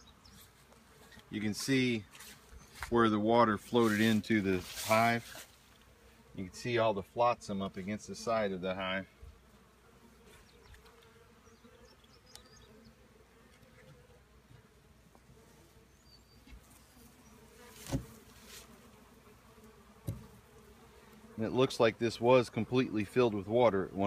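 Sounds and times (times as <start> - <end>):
honeybees humming: 0.0 - 24.0.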